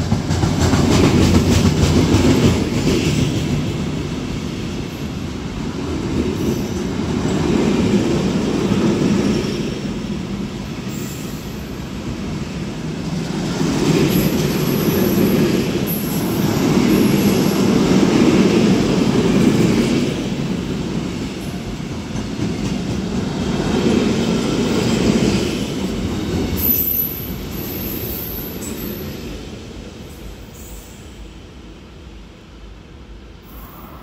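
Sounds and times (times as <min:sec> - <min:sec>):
freight train wheels rumbling on rails: 0:00.0 - 0:34.0.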